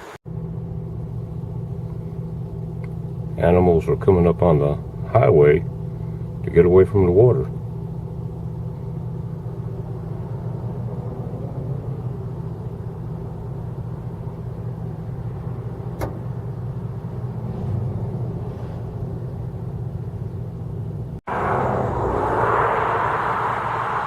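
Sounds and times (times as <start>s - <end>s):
car engine and road hum: 0.0s - 24.0s.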